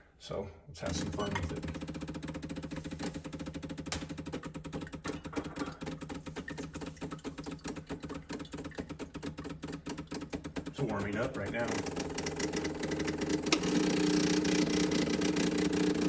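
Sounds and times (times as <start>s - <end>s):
espresso machine hum: 0.8s - 16.0s
espresso machine pump ticking: 0.8s - 16.0s.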